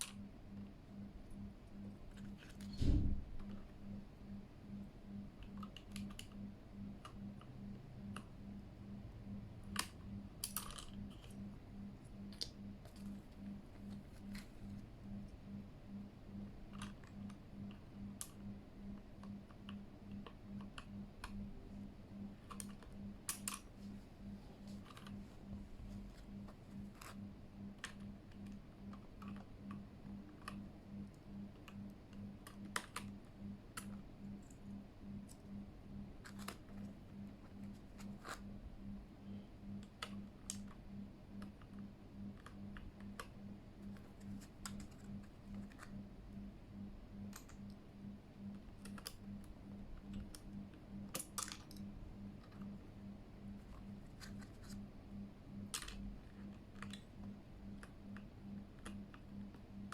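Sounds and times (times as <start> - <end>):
faint pulsing hum: 0.0 - 59.9.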